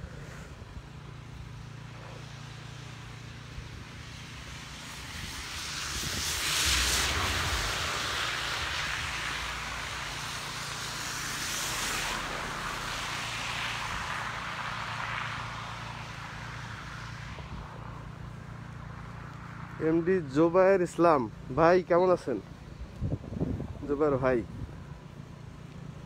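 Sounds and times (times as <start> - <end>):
low traffic rumble: 0.0 - 26.0
tyres hissing on slushy street: 0.0 - 26.0.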